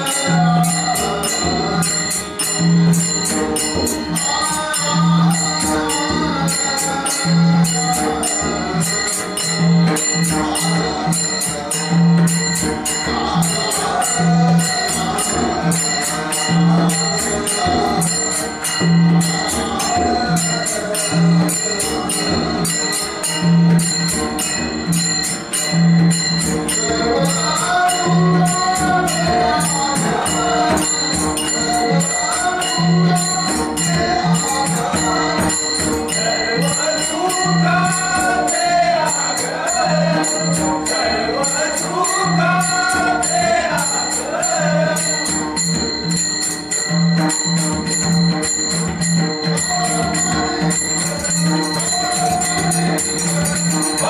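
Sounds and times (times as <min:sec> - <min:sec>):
group singing: 0:00.0 - 0:54.0
hand cymbals clashing: 0:00.0 - 0:54.0.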